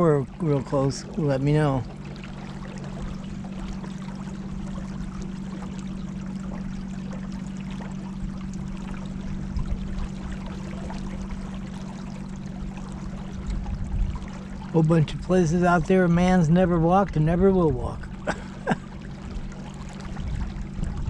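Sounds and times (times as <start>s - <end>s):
steady low hum: 0.0s - 21.0s
water splashing against kayak: 0.0s - 21.0s.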